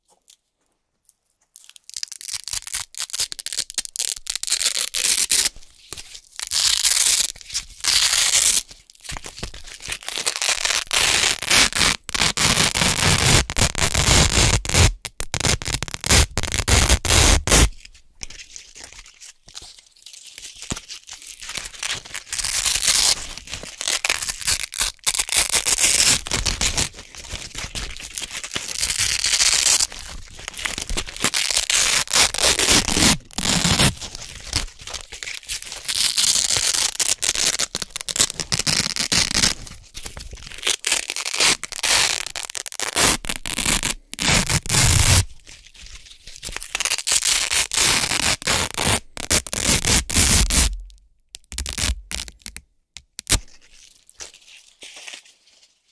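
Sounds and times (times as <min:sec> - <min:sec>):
velcro strips ripping apart: 0:01.6 - 0:05.6, 0:06.2 - 0:17.8, 0:20.4 - 0:45.5, 0:46.2 - 0:55.8.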